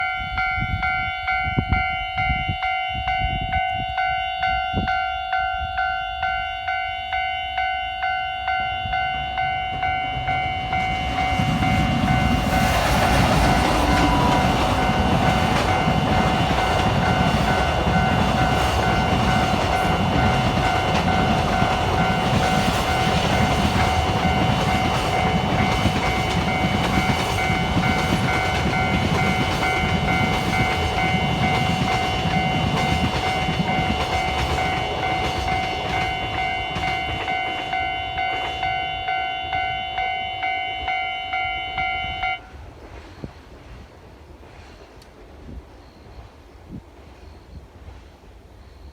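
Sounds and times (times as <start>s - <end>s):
level crossing bell ringing: 0.0s - 12.8s, 14.8s - 42.4s
freight train passing: 0.0s - 48.9s.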